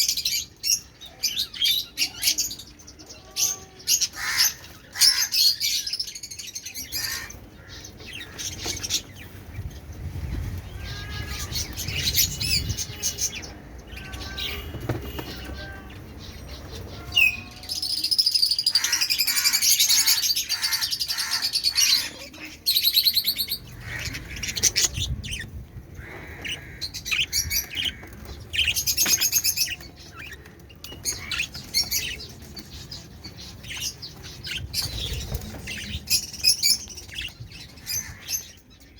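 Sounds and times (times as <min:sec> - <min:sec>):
caged birds chirping: 0:00.0 - 0:38.9.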